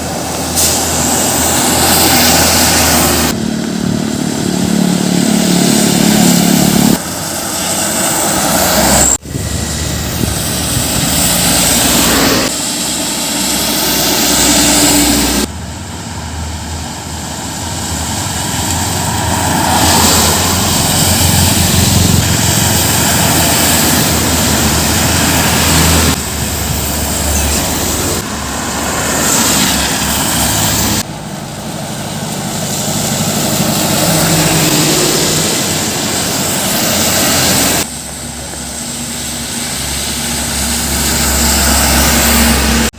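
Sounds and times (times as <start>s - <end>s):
heavy trucks and buses passing: 0.0s - 42.9s.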